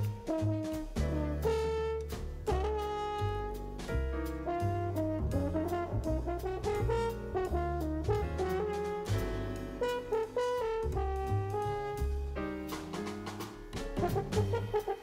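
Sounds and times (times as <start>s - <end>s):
bass notes: 0.0s - 15.0s
french horn solo: 0.3s - 3.6s, 4.4s - 12.3s, 14.0s - 15.0s.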